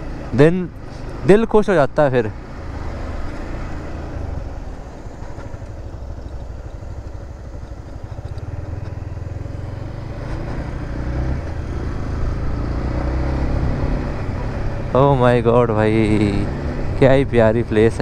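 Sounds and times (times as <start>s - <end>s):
motorcycle engine rumble: 0.0s - 18.0s.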